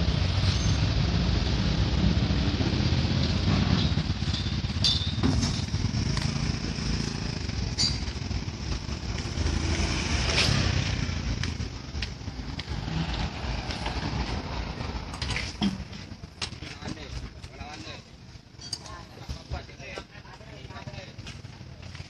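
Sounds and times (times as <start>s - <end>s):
low traffic rumble: 0.0s - 22.0s
motorcycle engines passing: 0.0s - 22.0s.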